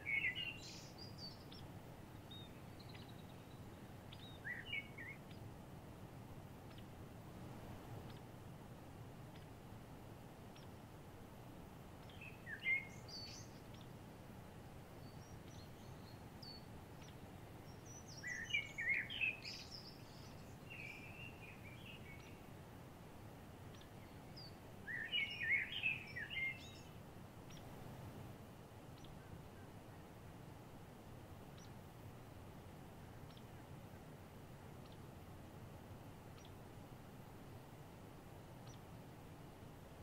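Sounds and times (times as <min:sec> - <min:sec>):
low background noise: 0:00.0 - 0:40.0
songbirds chirping: 0:00.0 - 0:40.0.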